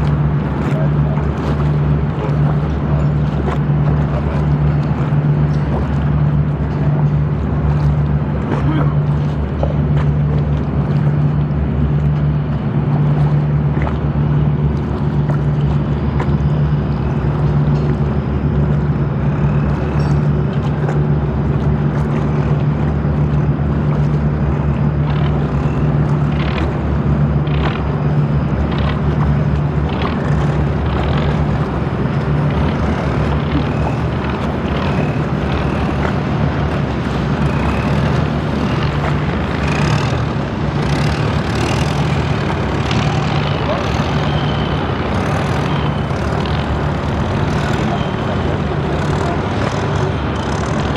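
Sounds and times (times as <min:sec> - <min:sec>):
boat engine running: 0:00.0 - 0:50.9
water noise: 0:00.0 - 0:50.9.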